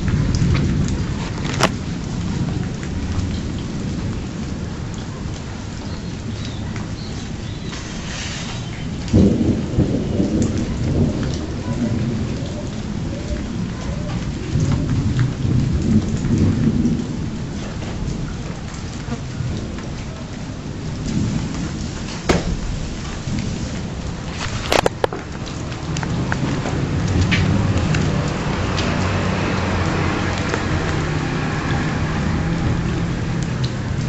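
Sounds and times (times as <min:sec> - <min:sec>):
steady rain hiss: 0:00.0 - 0:34.0
thunder clap and rumble: 0:00.0 - 0:34.0.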